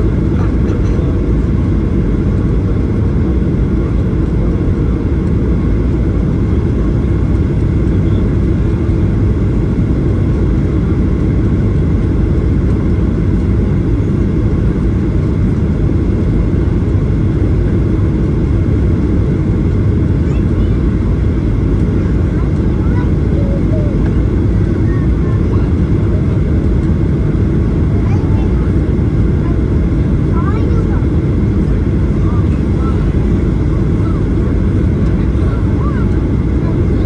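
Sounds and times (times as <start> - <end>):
airplane cabin low rumble: 0.0 - 37.0.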